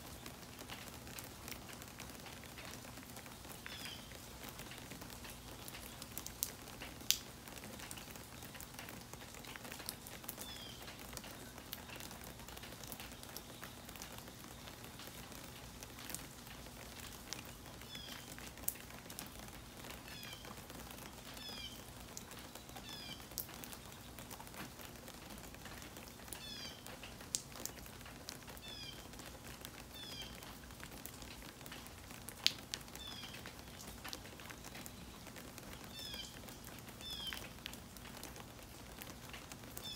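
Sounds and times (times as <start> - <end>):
rain dripping: 0.0 - 39.9.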